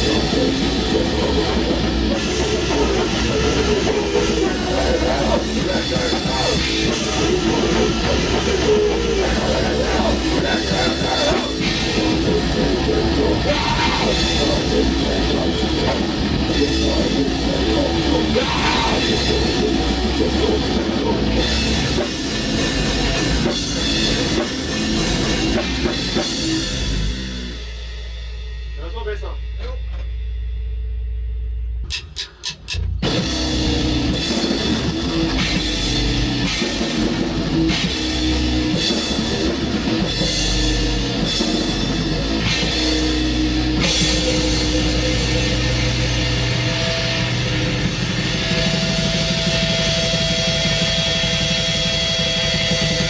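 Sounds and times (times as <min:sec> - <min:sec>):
distorted electric guitar: 0:00.0 - 0:27.7, 0:31.9 - 0:53.0
drum kit: 0:00.0 - 0:31.2, 0:31.8 - 0:53.0.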